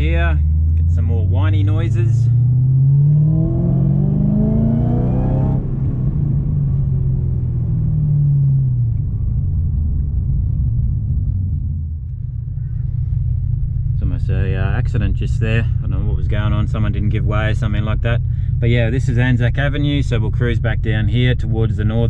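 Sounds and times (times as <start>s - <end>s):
car engine accelerating: 0.0s - 22.0s
supercharger whine: 0.0s - 22.0s.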